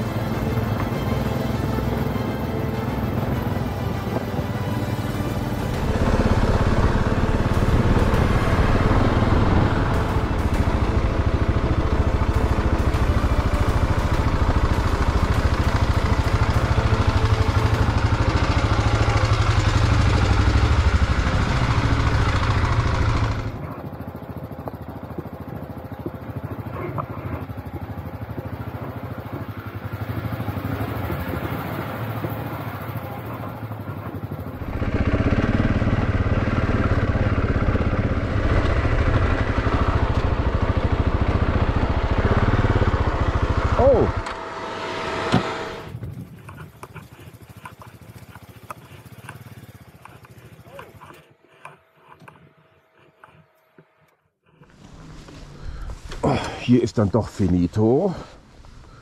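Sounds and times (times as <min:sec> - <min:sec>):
motorcycle engine running: 0:00.0 - 0:56.6.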